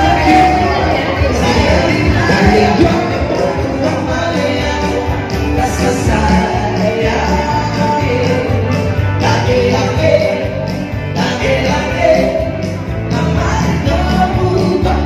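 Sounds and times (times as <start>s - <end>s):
person singing with band: 0.0s - 15.0s.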